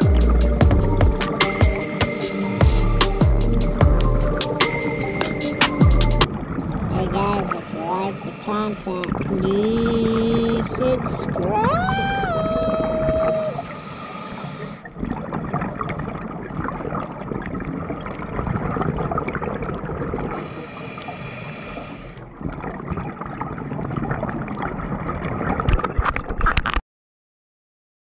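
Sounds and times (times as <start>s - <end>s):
underwater rushing water noise: 0.0s - 26.5s.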